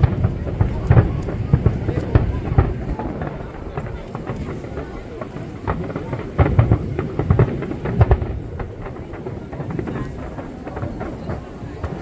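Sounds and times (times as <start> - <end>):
crowd murmur: 0.0 - 12.0
fireworks booming: 0.0 - 12.0.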